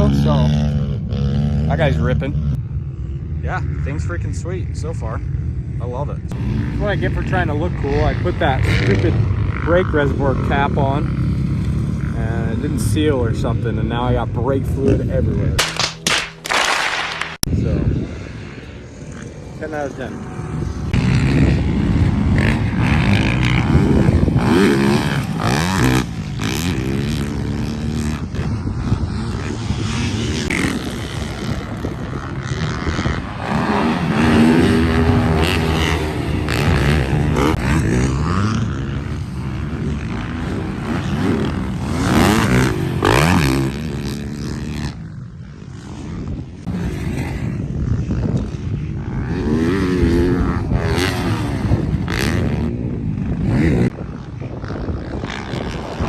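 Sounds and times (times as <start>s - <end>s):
dirt bike engine revving: 0.0s - 54.3s.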